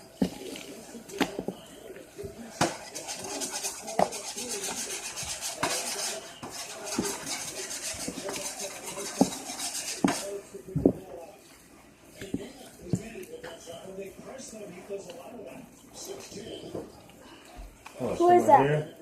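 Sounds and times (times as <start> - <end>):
scraping and stirring: 0.0 - 16.9.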